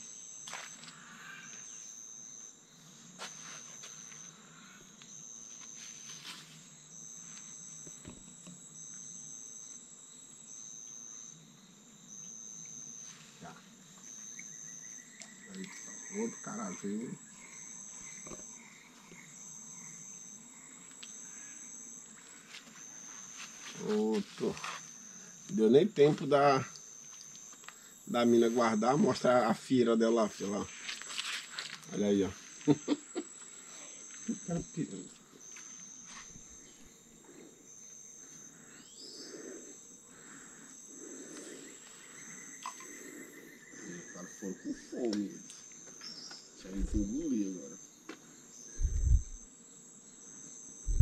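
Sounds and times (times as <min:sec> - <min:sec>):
insect high-pitched trills: 0:00.0 - 0:51.0.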